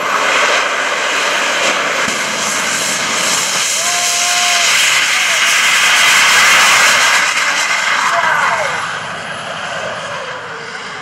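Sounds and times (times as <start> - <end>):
jet engine rushing past: 0.0 - 11.0.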